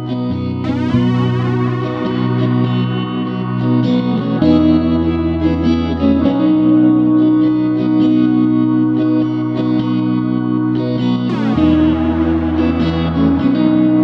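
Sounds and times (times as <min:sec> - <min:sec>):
bass line: 0:00.0 - 0:14.0
guitar playing sustained chords: 0:00.0 - 0:14.0.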